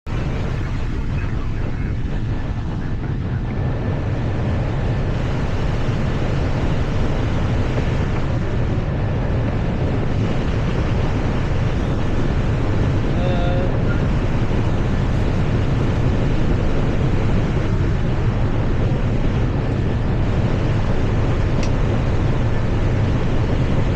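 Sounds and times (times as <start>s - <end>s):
rush of air over cockpit: 0.0s - 23.9s
deep even hum: 0.1s - 23.9s.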